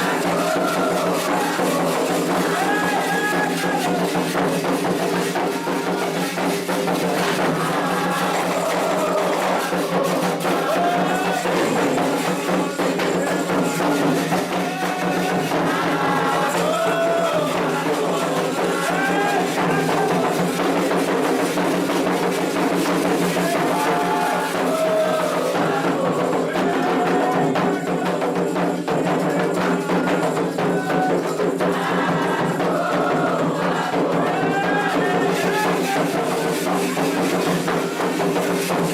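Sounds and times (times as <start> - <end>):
hand drums: 0.0 - 38.9
people singing: 0.0 - 38.9
rattling percussion: 0.0 - 38.9.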